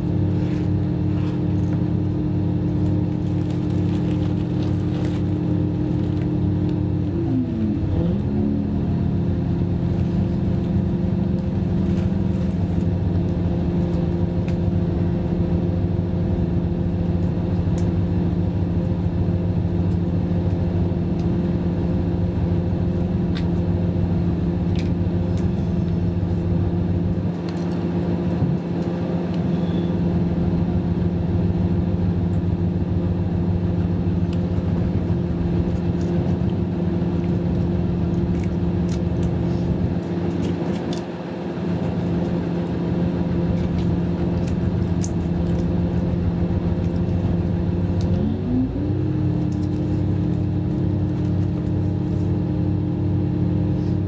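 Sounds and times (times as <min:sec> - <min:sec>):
train diesel engine drone: 0:00.0 - 0:54.0.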